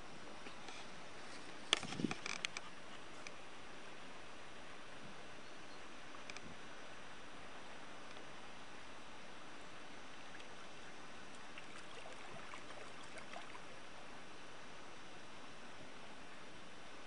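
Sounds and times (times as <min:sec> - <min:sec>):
stream water running over riffles: 0:01.0 - 0:17.0.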